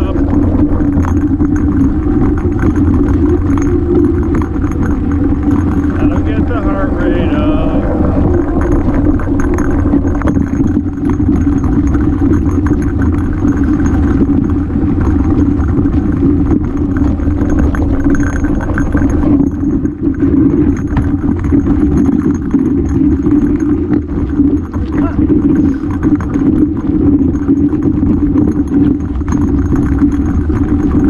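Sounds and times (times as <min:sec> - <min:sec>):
bike clattering and rattling: 0:00.0 - 0:31.0
tyres rumbling on rock: 0:00.0 - 0:31.0.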